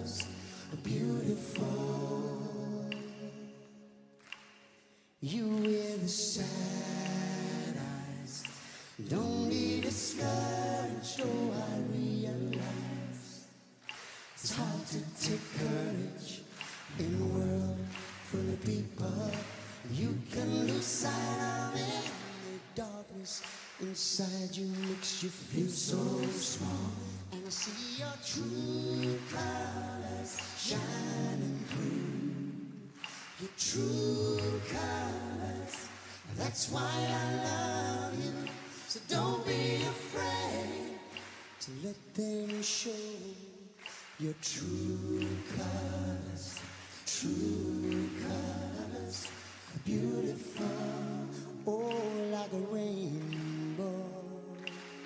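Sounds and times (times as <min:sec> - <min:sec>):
voices singing in harmony: 0:00.0 - 0:04.6, 0:05.2 - 0:55.0.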